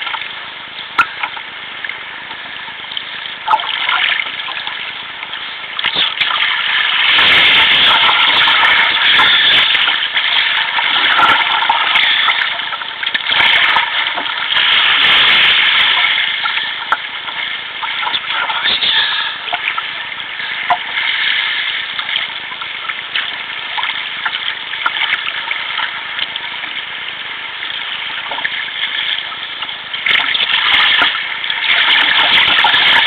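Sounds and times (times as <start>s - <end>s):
water splashing along kayak hull: 0.0s - 33.0s.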